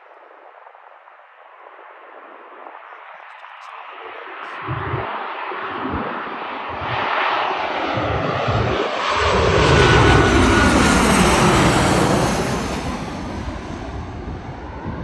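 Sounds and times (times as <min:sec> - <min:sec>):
airliner engines roaring: 0:00.0 - 0:15.0
wind gusts on microphone: 0:00.0 - 0:15.0.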